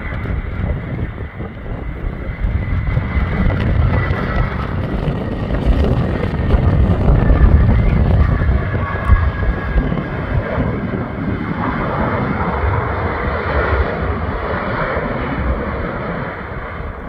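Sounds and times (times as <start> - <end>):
jet engines roaring: 0.0 - 17.0
wind rumble on microphone: 0.0 - 17.0.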